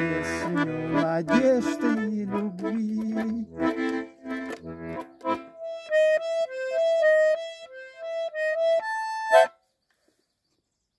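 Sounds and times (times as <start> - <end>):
accordion playing chords: 0.0 - 9.6.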